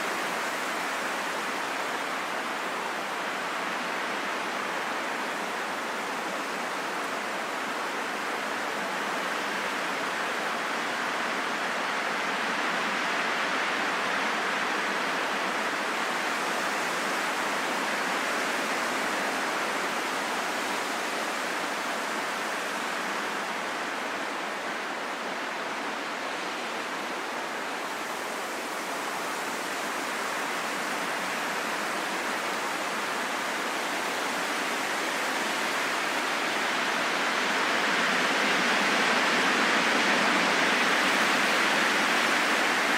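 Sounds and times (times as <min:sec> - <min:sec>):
heavy rain in a forest: 0:00.0 - 0:42.9.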